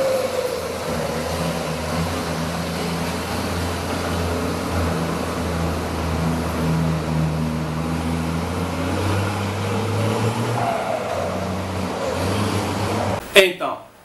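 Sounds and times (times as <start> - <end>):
garbage truck engine running: 0.0 - 13.2
street noise: 0.0 - 14.0.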